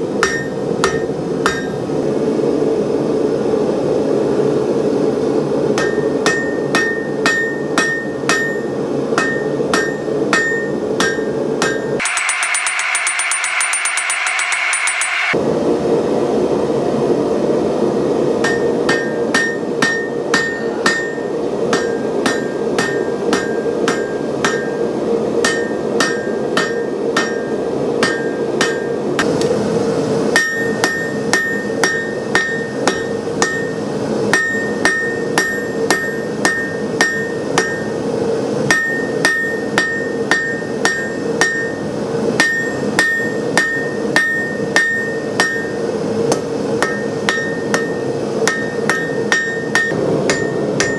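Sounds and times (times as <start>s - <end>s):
hammer striking steel on anvil: 0.2s - 1.8s, 5.8s - 15.4s, 18.4s - 24.8s, 25.4s - 29.4s, 30.4s - 38.0s, 38.7s - 50.9s.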